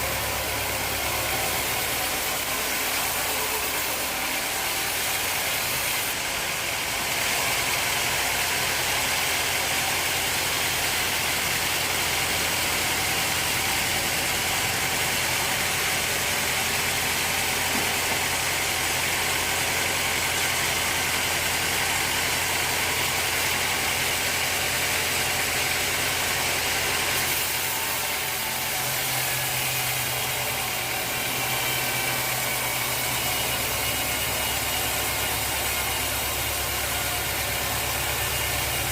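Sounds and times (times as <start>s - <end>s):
high hiss of sawing: 0.0s - 21.2s, 22.0s - 38.9s.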